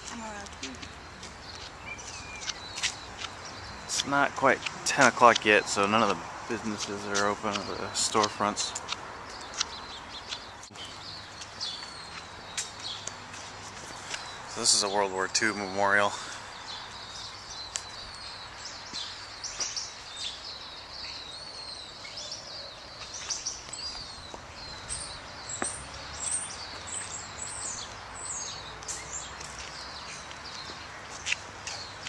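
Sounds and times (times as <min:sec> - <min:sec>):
low outdoor background noise: 0:00.0 - 0:32.0
small birds chirping: 0:00.0 - 0:32.0.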